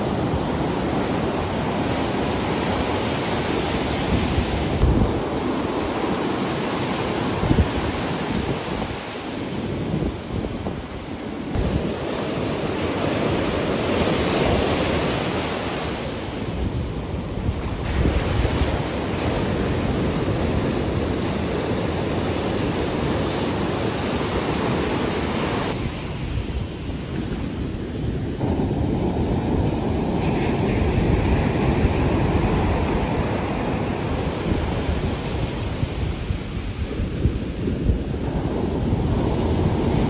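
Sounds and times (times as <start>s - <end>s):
heavy surf breaking: 0.0s - 40.0s
wind buffeting microphone: 0.0s - 40.0s.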